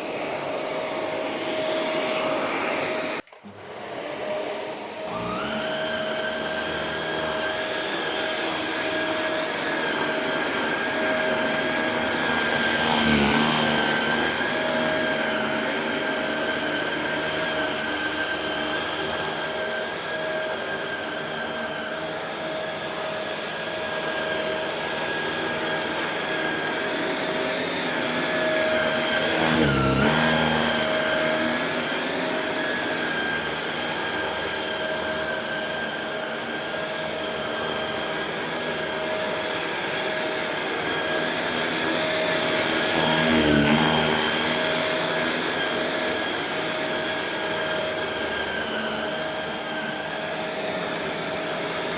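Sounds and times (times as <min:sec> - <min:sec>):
vacuum cleaner motor whine: 0:00.0 - 0:51.9.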